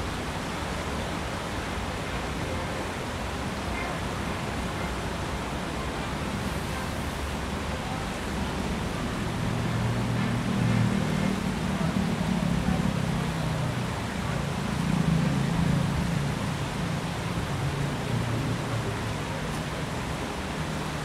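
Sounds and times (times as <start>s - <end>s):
low rumble of traffic: 0.0s - 21.0s
stream running over rocks: 0.0s - 21.0s.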